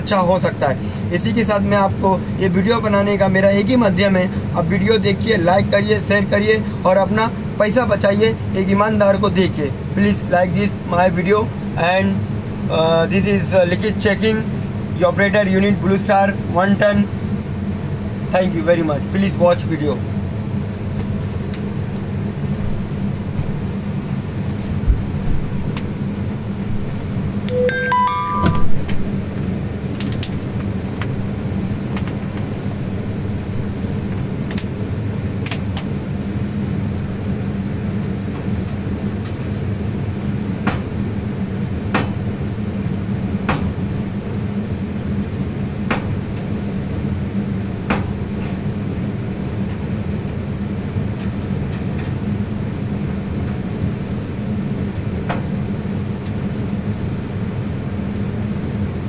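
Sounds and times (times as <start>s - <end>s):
evaporator hum and fan noise: 0.0s - 59.0s.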